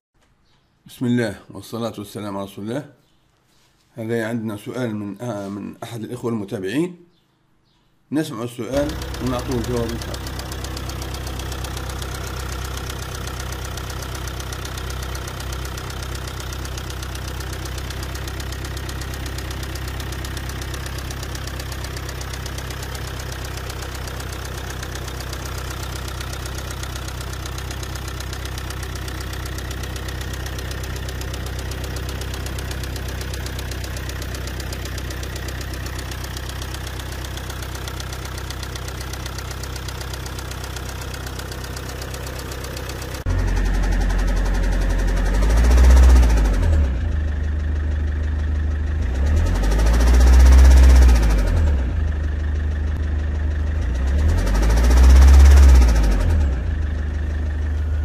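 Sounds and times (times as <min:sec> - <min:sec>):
diesel engine idling: 0:08.7 - 0:58.0
fast knocking inside engine: 0:08.8 - 0:58.0.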